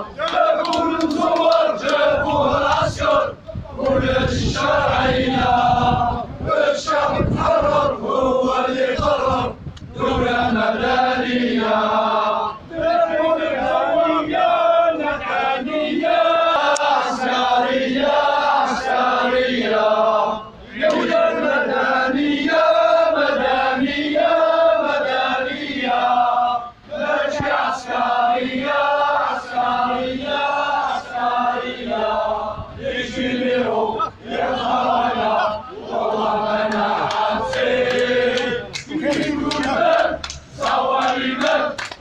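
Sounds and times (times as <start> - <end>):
crowd of men chanting: 0.0 - 42.0.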